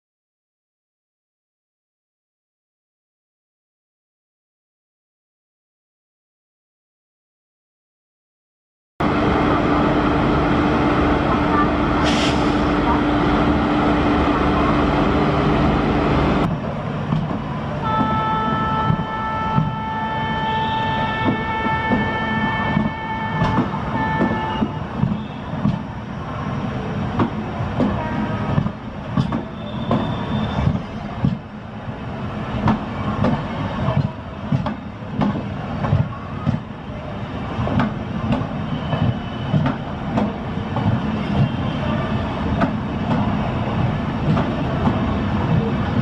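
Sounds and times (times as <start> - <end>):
train low rumble: 9.0 - 46.0.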